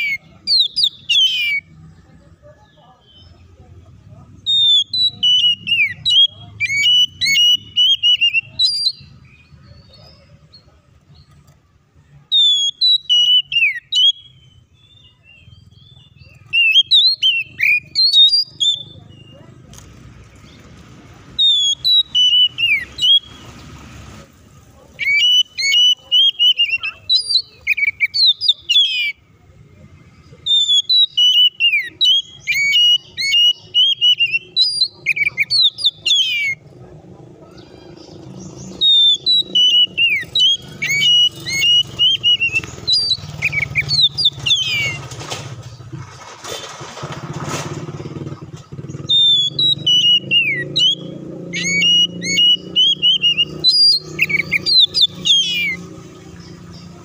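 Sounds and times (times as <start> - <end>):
passing motor rumble: 0.0 - 12.3, 14.2 - 57.0
bird singing whistles and chatter: 0.0 - 45.9, 48.0 - 57.0.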